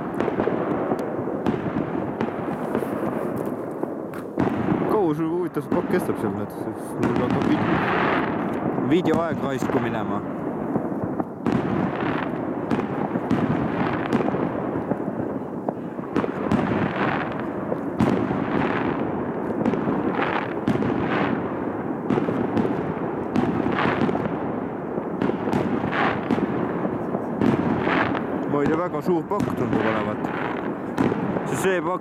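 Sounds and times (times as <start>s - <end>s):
fireworks bangs and crackle: 0.0s - 32.0s.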